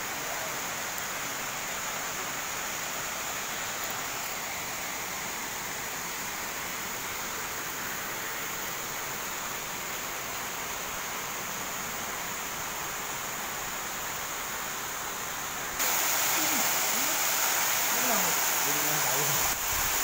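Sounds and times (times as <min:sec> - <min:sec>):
waterfall and river rushing over rocks: 0:00.0 - 0:11.0, 0:12.2 - 0:20.0.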